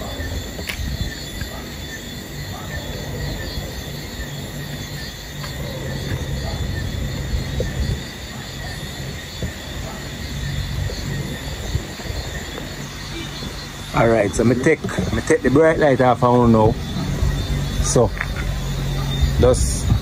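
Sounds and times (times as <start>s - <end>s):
constant low rumble: 0.0s - 20.0s
insects chirping: 0.0s - 20.0s.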